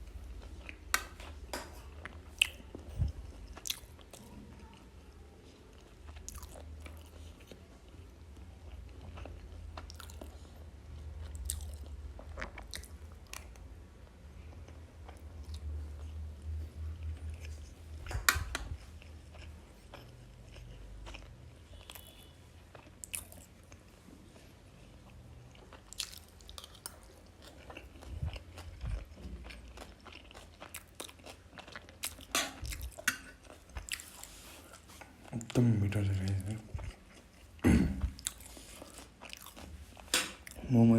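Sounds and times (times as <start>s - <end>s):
chewing and biting food: 0.1s - 4.8s, 5.6s - 40.7s.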